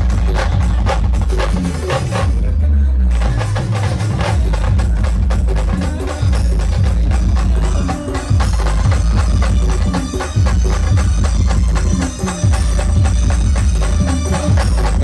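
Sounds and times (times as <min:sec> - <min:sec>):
loud band music with heavy bass: 0:00.0 - 0:15.0.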